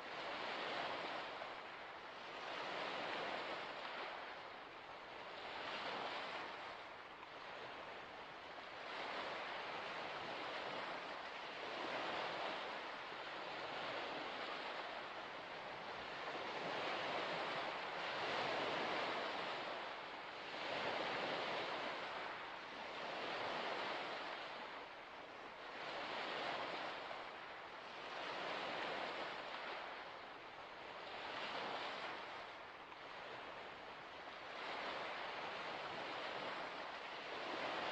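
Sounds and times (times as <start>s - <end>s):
waves washing onto shore: 0.0s - 37.9s.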